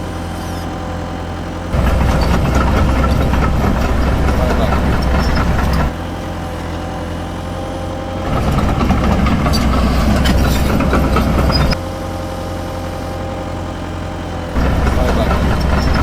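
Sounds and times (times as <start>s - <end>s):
simulated diesel engine idling: 0.0s - 16.0s.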